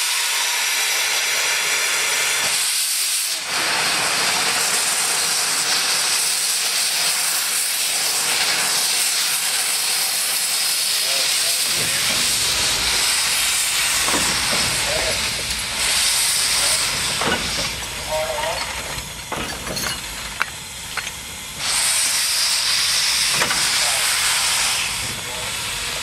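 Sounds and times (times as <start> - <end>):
steam locomotive venting steam: 0.0 - 26.0.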